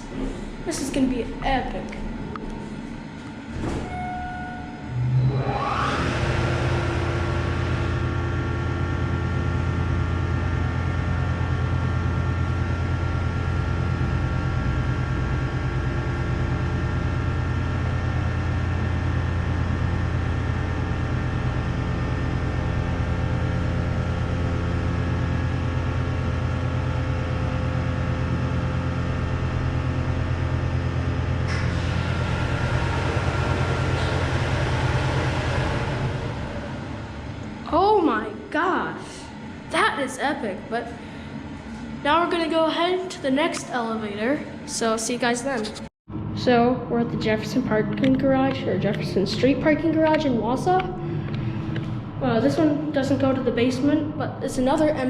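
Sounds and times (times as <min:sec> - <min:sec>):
elevator pump motor humming: 0:00.0 - 0:55.0
steady whining tones: 0:00.0 - 0:55.0.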